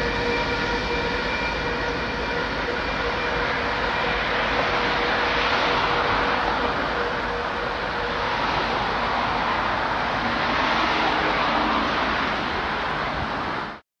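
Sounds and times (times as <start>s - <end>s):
diesel locomotive and train running: 0.0s - 13.8s.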